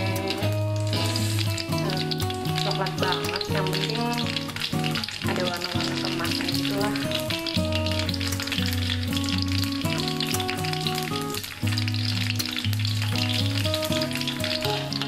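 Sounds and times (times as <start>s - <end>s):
background music: 0.0s - 15.0s
peanuts sizzling in hot oil: 0.0s - 15.0s.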